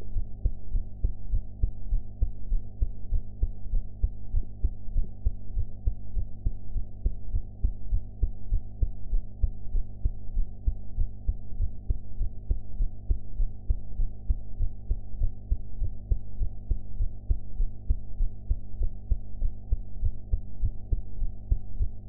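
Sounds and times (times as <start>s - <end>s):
steady low hum: 0.0s - 22.0s
muffled heartbeat thumps: 0.1s - 22.0s.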